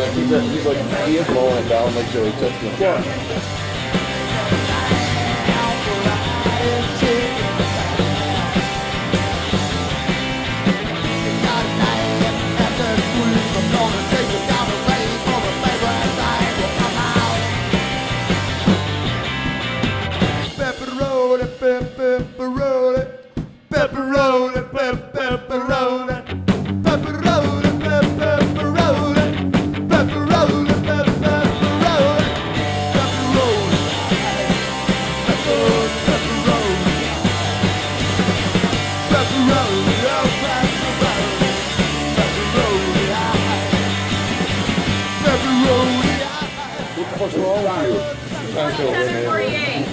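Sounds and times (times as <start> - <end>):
rock band music: 0.0 - 49.9.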